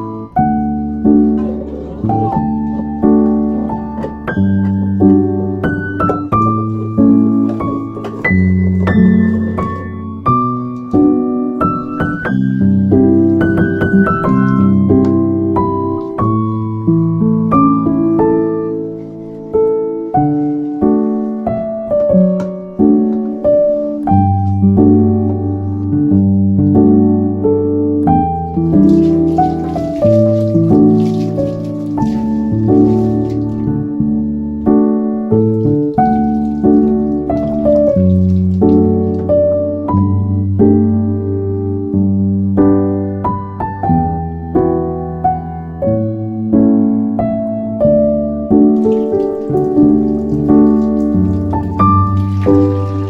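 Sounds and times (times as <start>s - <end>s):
gentle piano music: 0.0s - 53.0s.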